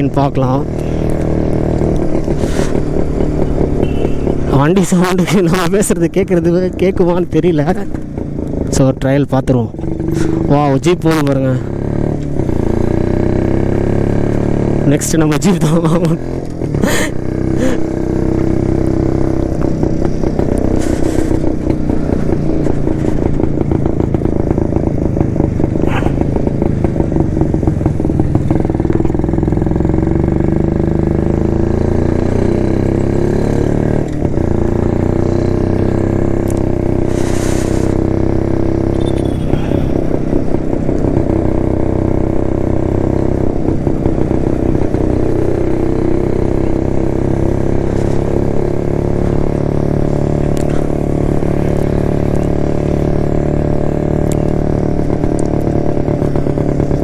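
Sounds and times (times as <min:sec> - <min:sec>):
two-stroke motorcycle engine running: 0:00.0 - 0:57.0.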